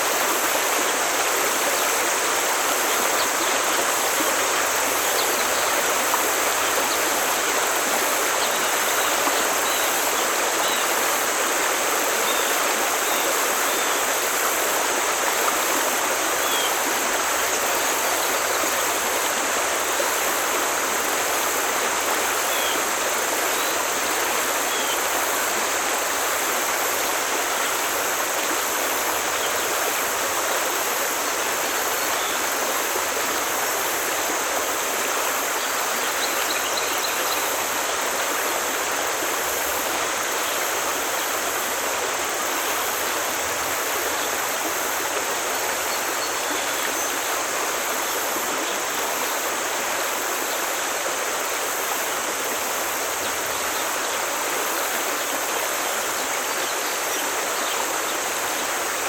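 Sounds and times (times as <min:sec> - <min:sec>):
stream rushing: 0:00.0 - 0:59.0.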